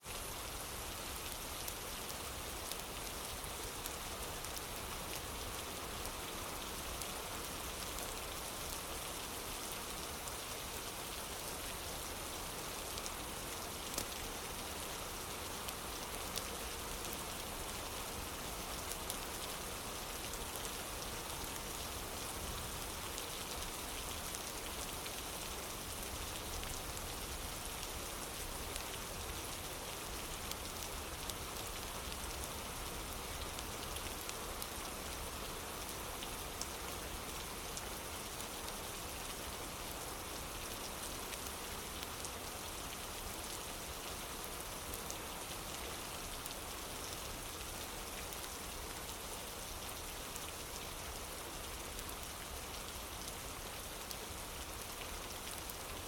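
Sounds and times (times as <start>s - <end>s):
rain on a wooden porch: 0.0s - 56.0s.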